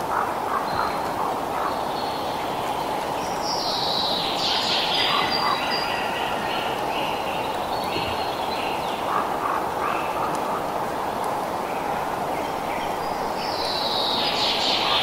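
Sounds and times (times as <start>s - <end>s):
songbirds singing: 0.0s - 15.0s
wind through trees: 0.0s - 15.0s.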